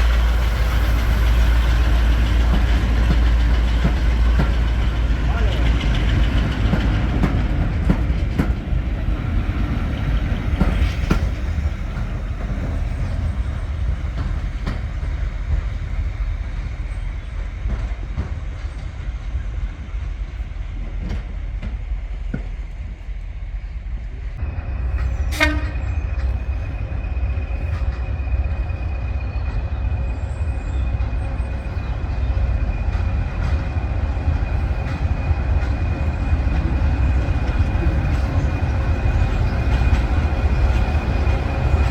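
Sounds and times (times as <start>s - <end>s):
diesel locomotive rumbling: 0.0s - 41.9s.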